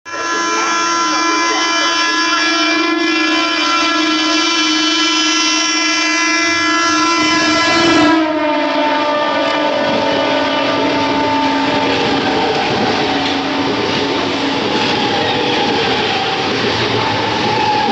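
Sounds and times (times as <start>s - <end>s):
train horn: 0.0s - 17.9s
train coaches rattling past: 0.1s - 17.9s.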